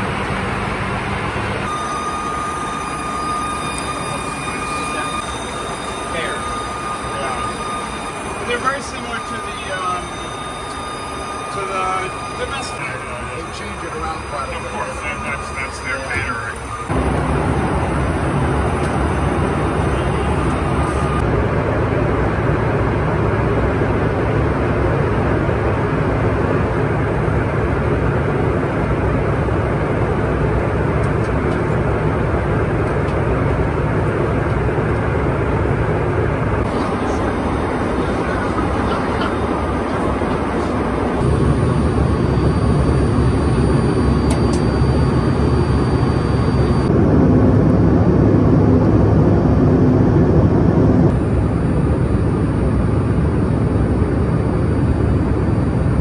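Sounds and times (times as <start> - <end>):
jet cabin noise in flight: 0.0 - 56.0.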